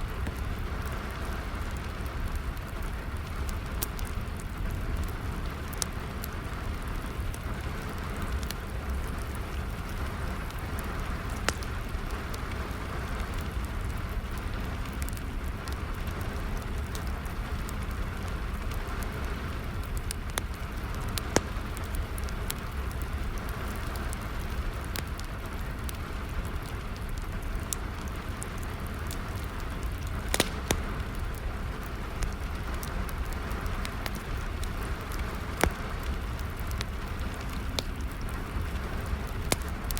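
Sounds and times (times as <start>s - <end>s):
steady rainfall: 0.0s - 39.9s
wood fire crackling: 0.0s - 39.9s.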